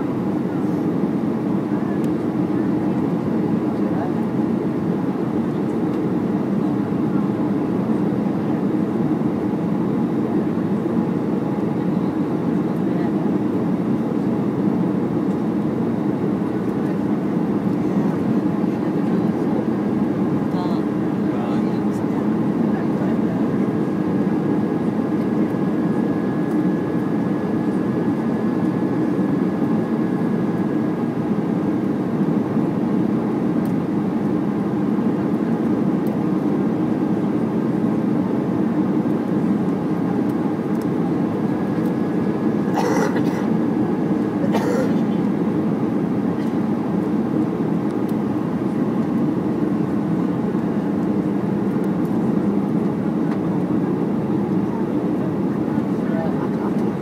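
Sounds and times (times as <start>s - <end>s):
jet engine and airflow roar: 0.0s - 57.0s.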